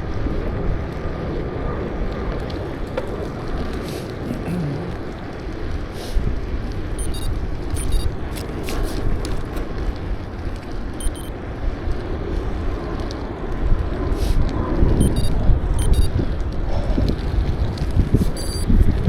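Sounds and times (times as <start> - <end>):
bicycle rolling noise: 0.0 - 19.0
wind rumbling on microphone: 0.0 - 19.0.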